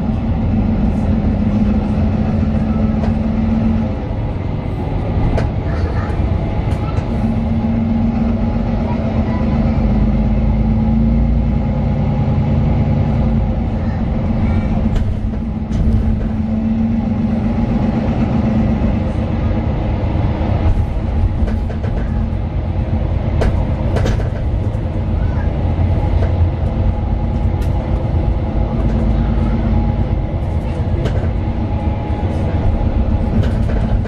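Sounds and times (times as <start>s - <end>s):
bus body rattles and clicks: 0.0s - 34.0s
bus engine rumbling: 0.0s - 34.0s.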